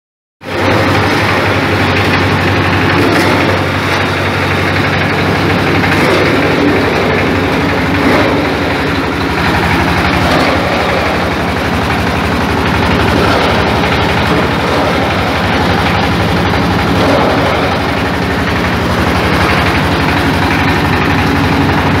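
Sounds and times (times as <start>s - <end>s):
chipping machine running: 0.4s - 22.0s.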